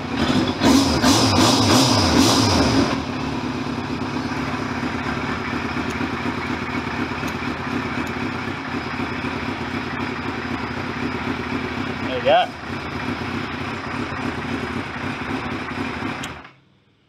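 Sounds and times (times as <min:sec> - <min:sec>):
motorcycle engine idling: 0:02.9 - 0:17.0.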